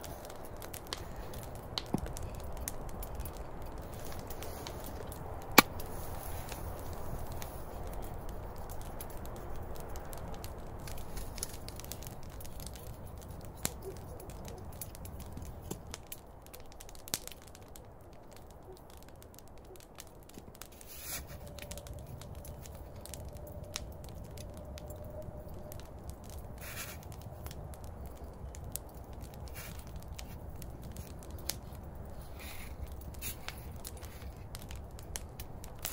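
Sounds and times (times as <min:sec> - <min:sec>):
campfire crackling and popping: 0:00.0 - 0:35.9
low outdoor background: 0:00.0 - 0:35.9.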